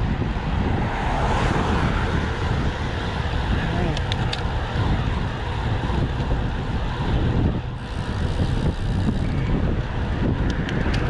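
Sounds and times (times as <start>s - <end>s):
road and tyre noise: 0.0s - 11.0s
wind rushing over microphone: 0.0s - 11.0s.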